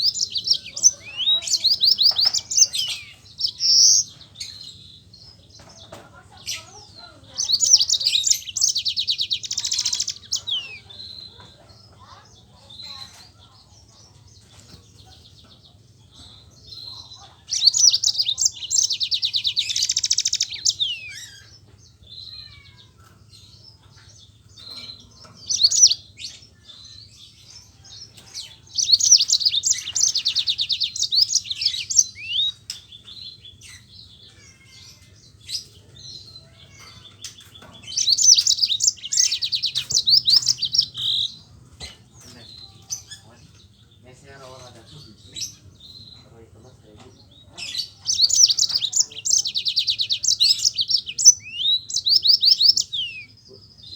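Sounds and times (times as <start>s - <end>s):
canary chirps: 0.0s - 53.9s
canary trilling: 0.0s - 53.9s.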